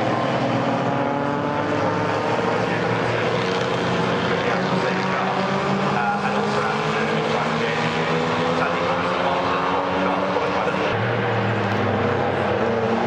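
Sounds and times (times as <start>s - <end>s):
racing car engine accelerating: 0.0s - 13.0s.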